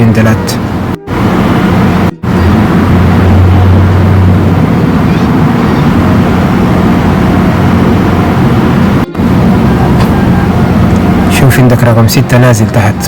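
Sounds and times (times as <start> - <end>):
engine idling rough: 0.0 - 13.0.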